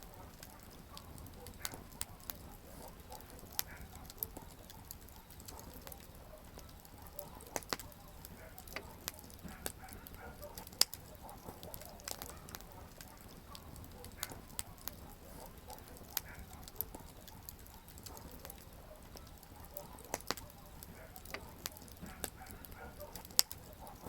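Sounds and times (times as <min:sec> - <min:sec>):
campfire crackling and popping: 0:00.0 - 0:24.0
flames rushing: 0:00.0 - 0:24.0.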